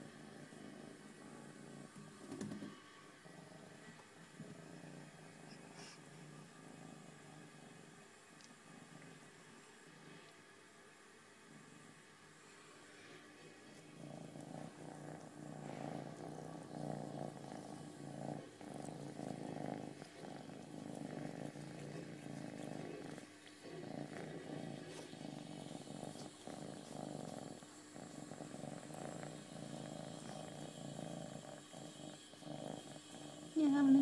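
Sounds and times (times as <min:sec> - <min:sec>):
cat purring: 0:00.0 - 0:10.3, 0:11.2 - 0:34.0.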